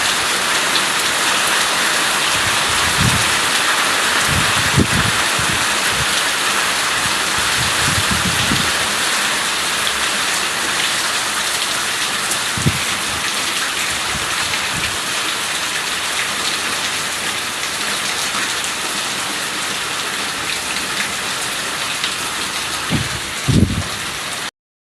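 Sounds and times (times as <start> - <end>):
steady rain: 0.0 - 24.5.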